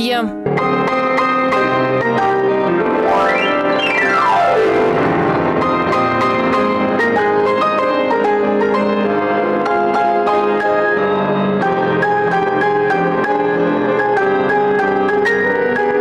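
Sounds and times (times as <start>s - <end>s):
piano playing: 0.0s - 16.0s.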